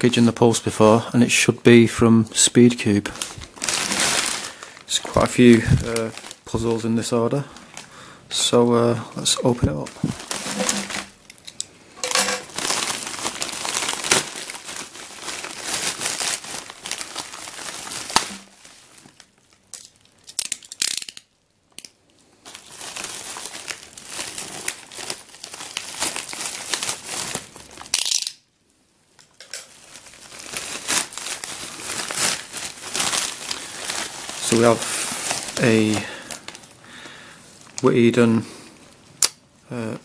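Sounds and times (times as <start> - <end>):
plastic packaging crinkling and tearing: 1.7 - 28.5, 29.1 - 36.8.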